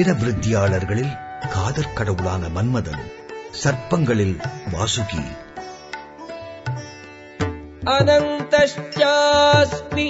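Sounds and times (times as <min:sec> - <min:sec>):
tabla strokes: 0:00.0 - 0:10.0.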